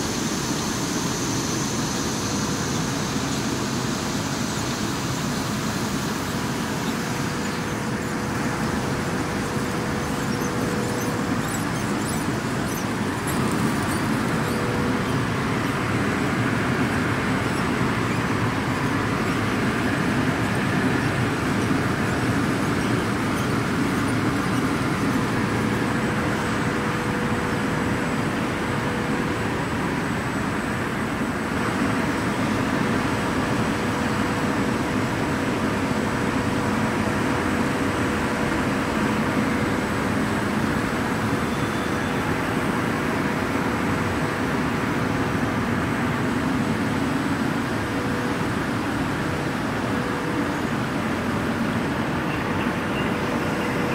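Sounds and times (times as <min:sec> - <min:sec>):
printing press roller whir: 0:00.0 - 0:53.9.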